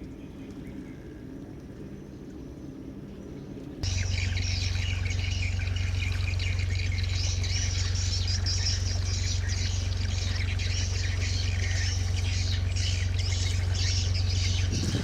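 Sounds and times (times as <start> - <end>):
steady low hum: 0.0 - 15.0
birds chirping and twittering: 1.8 - 15.0.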